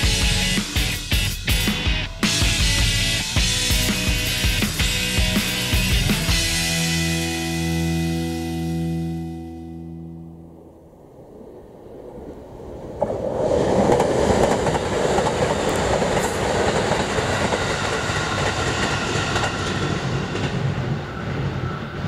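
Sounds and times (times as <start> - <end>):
train passing at speed: 0.0 - 9.4, 10.0 - 22.0.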